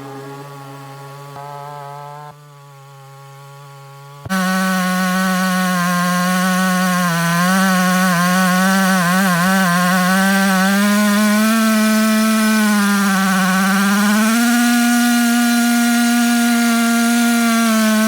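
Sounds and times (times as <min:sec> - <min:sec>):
chainsaw milling a log: 0:00.0 - 0:18.0.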